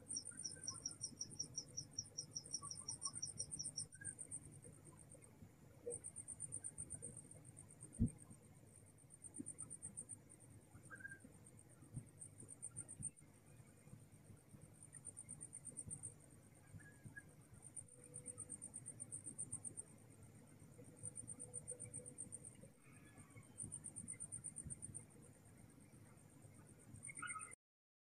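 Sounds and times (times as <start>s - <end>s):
crickets chirping: 0.0s - 14.0s, 14.6s - 27.5s
faint low hum: 0.0s - 27.5s.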